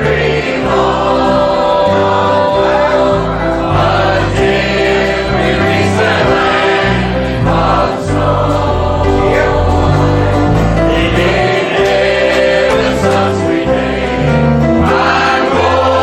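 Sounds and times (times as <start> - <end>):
choir singing a hymn: 0.0 - 16.0
instrumental accompaniment: 0.0 - 16.0
moving bass line: 0.0 - 16.0.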